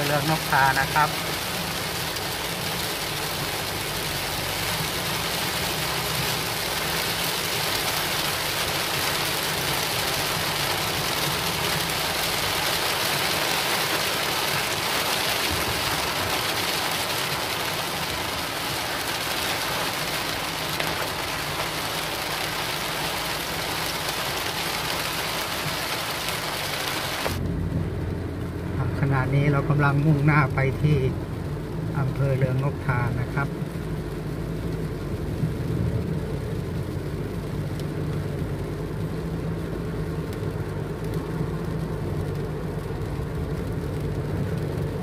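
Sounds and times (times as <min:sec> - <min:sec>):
car engine hum: 0:00.0 - 0:45.0
heavy rain on car roof: 0:00.0 - 0:45.0
tyre noise on wet road: 0:00.0 - 0:45.0.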